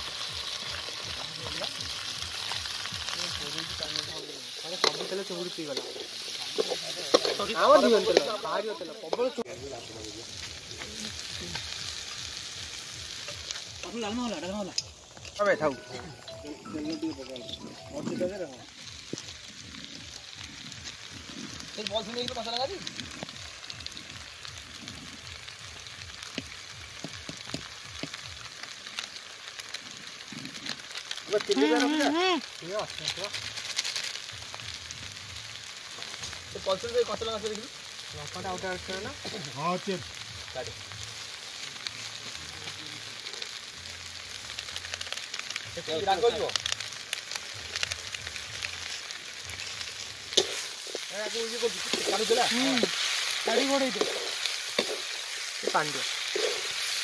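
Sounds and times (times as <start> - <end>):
vegetables sizzling in a pan: 0.0 - 57.0.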